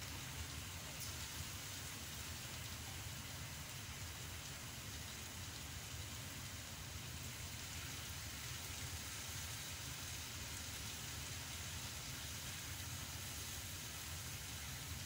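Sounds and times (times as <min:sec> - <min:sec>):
food simmering in a wok: 0:00.0 - 0:15.0.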